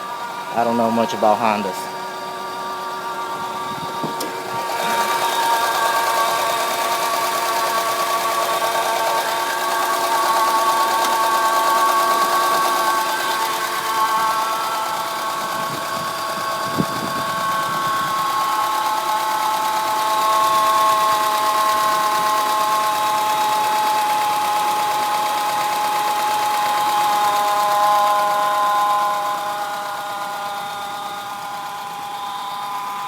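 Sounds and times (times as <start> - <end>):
engine running with high whine: 0.0 - 33.0.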